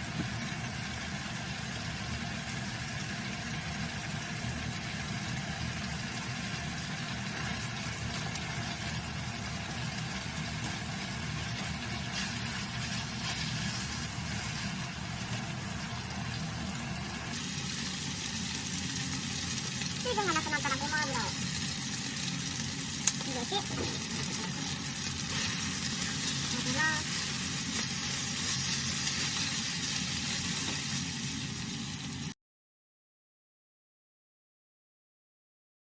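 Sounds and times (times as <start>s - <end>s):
food sizzling in a frying pan: 0.0s - 32.4s.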